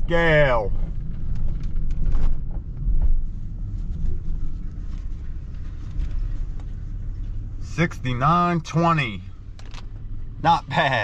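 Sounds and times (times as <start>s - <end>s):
truck engine running low: 0.0s - 11.0s.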